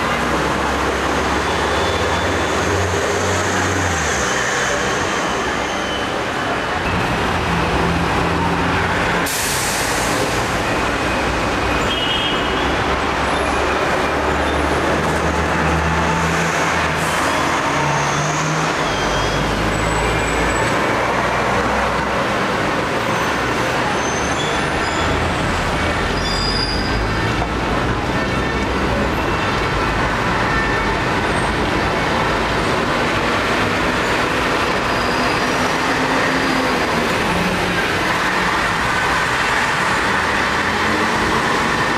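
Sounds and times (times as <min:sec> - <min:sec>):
traffic rumble and rattle: 0:00.0 - 0:41.9.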